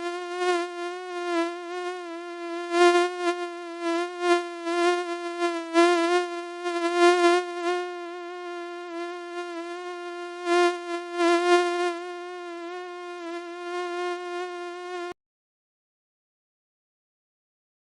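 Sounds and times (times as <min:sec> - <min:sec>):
mosquito whine: 0:00.0 - 0:15.2.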